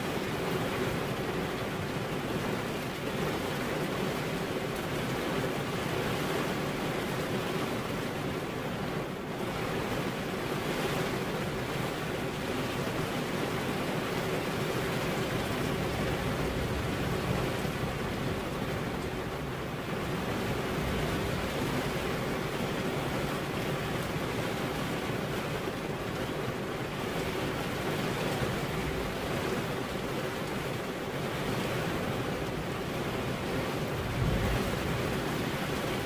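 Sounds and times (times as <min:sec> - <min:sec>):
rain on car windscreen: 0:00.0 - 0:36.0.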